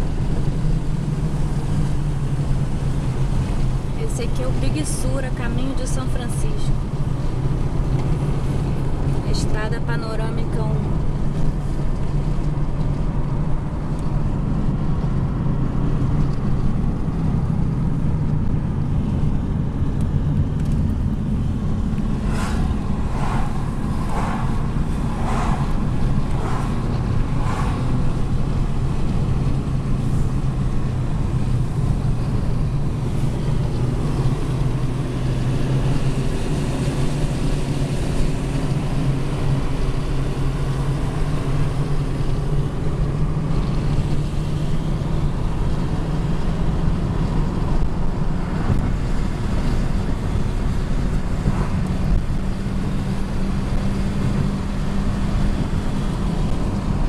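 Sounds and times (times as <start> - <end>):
low engine hum: 0.0 - 57.0
tyre and wind noise: 10.9 - 57.0.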